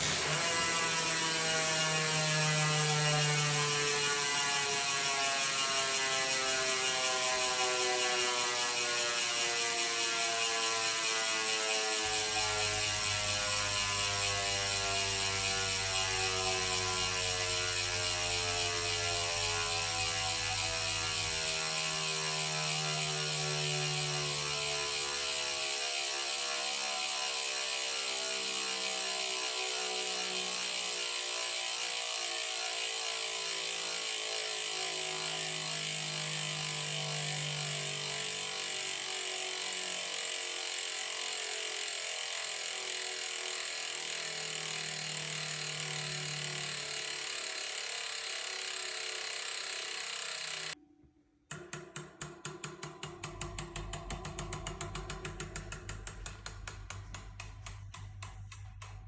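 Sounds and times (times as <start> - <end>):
bicycle freehub clicking: 0.0 - 50.8, 52.4 - 59.0.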